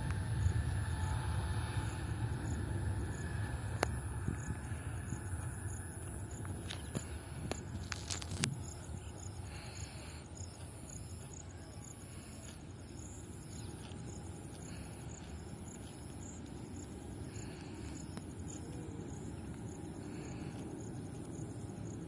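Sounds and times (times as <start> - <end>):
distant jet airliner rumble: 0.0 - 22.0
insects chirping: 0.0 - 22.0.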